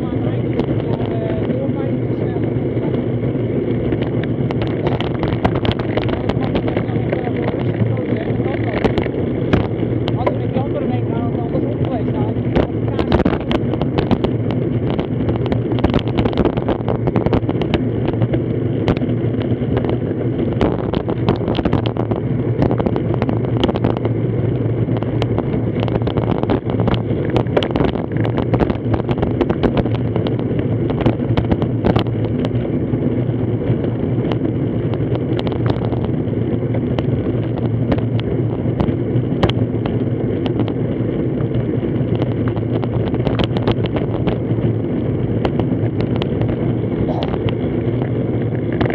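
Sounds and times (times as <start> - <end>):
low road rumble: 0.0 - 48.9
wind rushing over microphone: 0.0 - 48.9.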